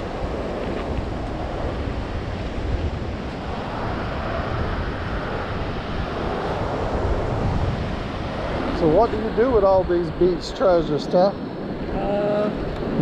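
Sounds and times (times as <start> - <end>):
surf washing onto beach: 0.0 - 13.0
wind rumbling on microphone: 0.0 - 13.0.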